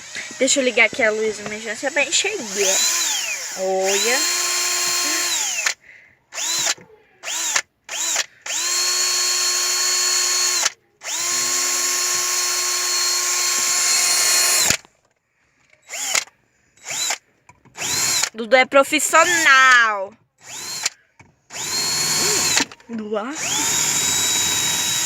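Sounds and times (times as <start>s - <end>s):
electric screwdriver motor whine: 0.0s - 5.8s, 6.4s - 14.8s, 15.8s - 17.2s, 17.8s - 18.3s, 19.2s - 19.6s, 20.4s - 22.8s, 23.4s - 25.0s.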